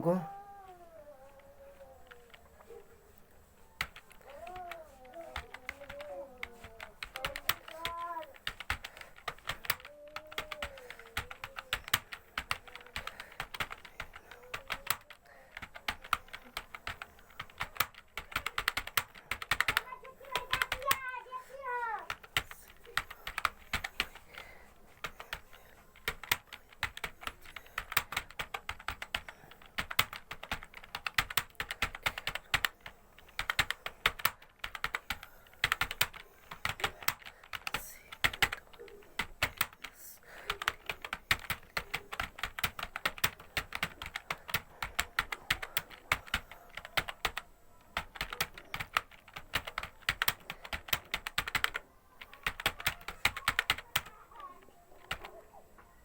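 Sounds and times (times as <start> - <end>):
fast typing on keyboard: 1.3 - 2.8, 3.8 - 55.3.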